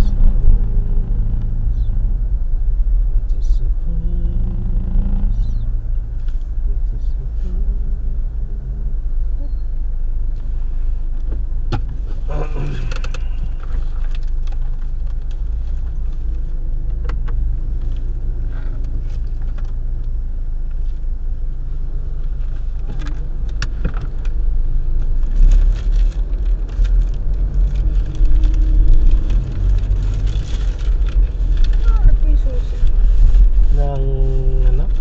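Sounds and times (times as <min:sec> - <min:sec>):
car engine rumble: 0:00.0 - 0:35.0.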